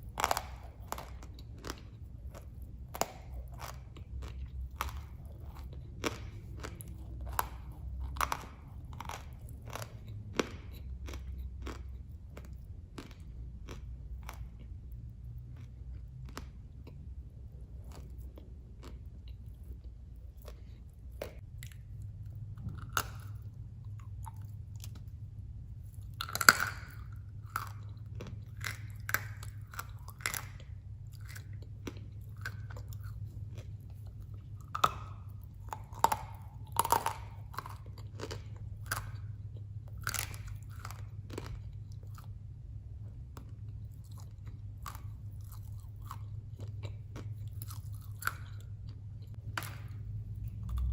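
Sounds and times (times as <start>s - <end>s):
crunchy food chewing: 0.0s - 50.9s.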